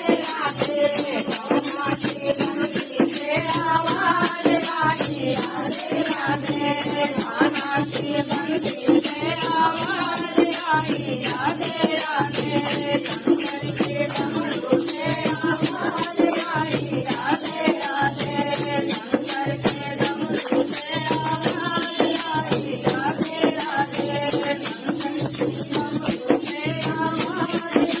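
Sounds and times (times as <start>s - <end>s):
person singing devotional song: 0.0s - 28.0s.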